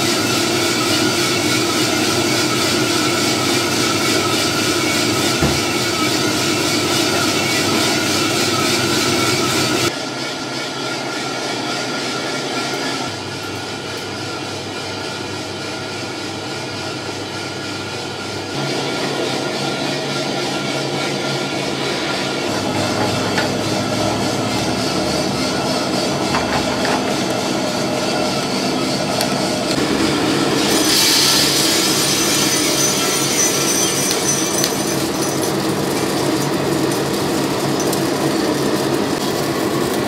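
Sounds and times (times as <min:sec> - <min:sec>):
coffee roaster whirring: 0:00.0 - 0:40.0.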